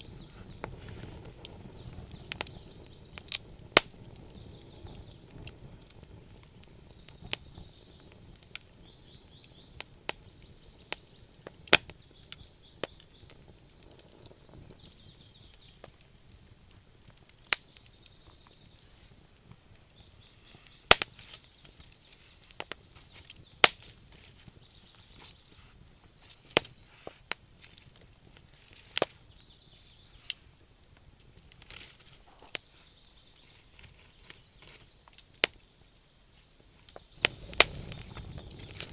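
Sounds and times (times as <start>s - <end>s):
soft high hiss: 0.0s - 38.9s
wood fire crackling: 0.0s - 38.9s.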